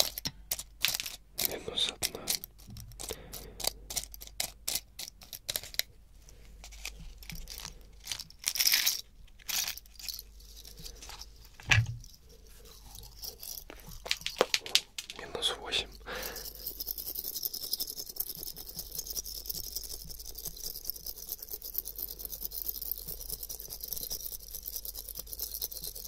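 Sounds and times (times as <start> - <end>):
rustling and handling sounds: 0.0 - 26.0.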